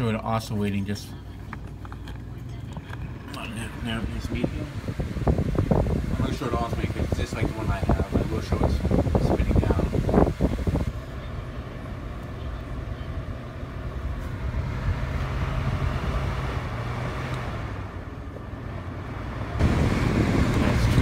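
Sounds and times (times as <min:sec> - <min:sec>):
electric fan spinning down: 0:02.8 - 0:21.0.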